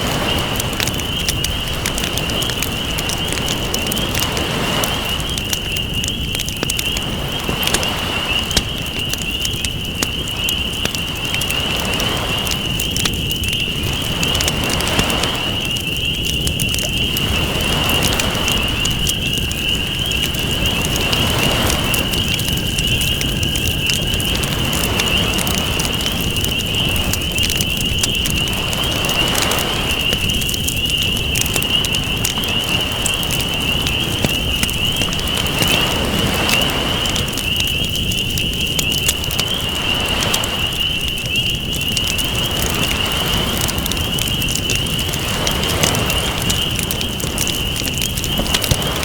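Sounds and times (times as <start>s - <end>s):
ocean waves washing: 0.0s - 15.8s, 16.7s - 41.1s, 42.2s - 49.0s
wood fire crackling: 0.0s - 49.0s.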